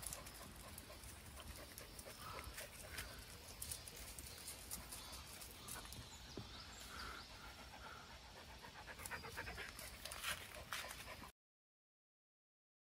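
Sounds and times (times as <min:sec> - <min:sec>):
dog panting: 0:00.0 - 0:11.3.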